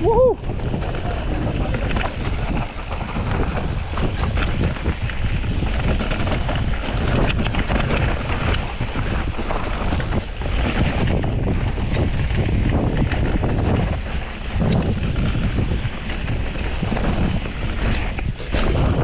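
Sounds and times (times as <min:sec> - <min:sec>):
tyre noise on dirt: 0:00.0 - 0:19.0
wind buffeting microphone: 0:00.0 - 0:19.0
small clicks and rattles: 0:00.4 - 0:19.0.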